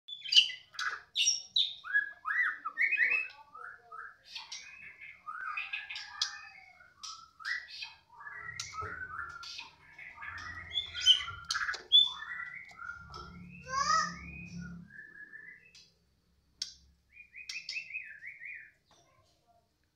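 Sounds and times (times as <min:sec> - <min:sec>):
bird singing whistles and chirps: 0:00.1 - 0:16.0, 0:17.1 - 0:18.8.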